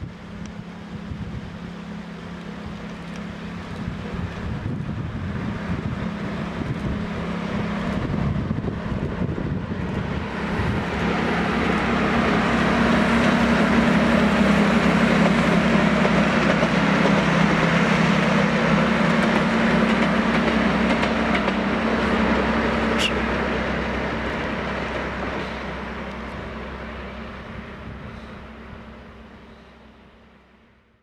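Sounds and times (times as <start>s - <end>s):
diesel locomotive engine drone: 0.0s - 31.0s.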